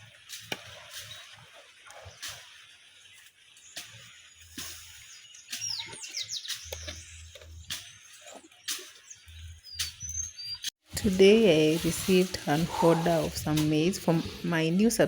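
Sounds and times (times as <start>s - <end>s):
small birds chirping: 2.0s - 15.0s.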